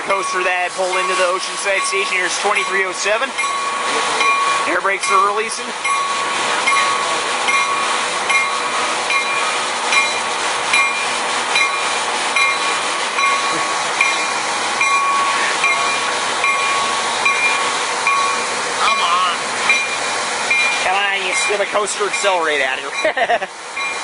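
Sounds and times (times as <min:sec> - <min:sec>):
train bell ringing: 0:00.0 - 0:24.0
train running noise: 0:00.0 - 0:24.0.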